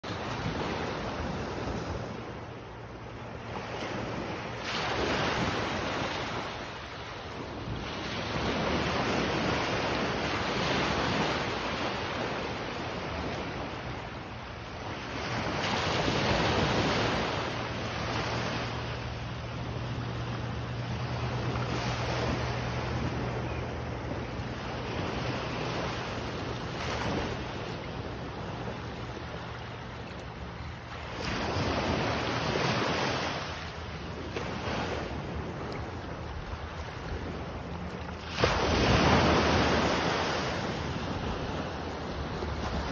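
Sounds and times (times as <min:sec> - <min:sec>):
small waves breaking on sand: 0:00.1 - 0:42.9.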